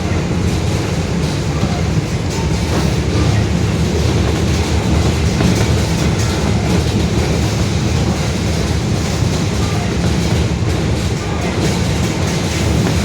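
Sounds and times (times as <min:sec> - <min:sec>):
bus differential droning: 0:00.0 - 0:13.0
road noise: 0:00.0 - 0:13.0.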